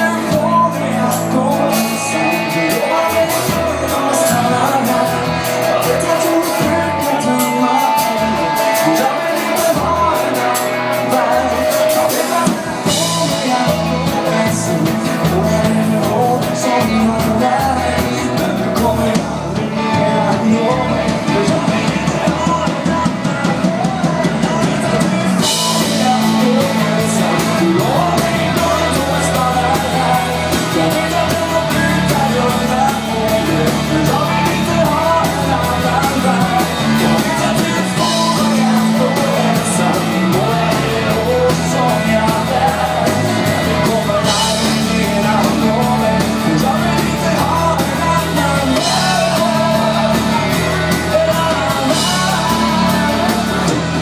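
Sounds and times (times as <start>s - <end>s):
live rock band playing: 0.0s - 54.0s
man singing lead vocal: 0.0s - 54.0s.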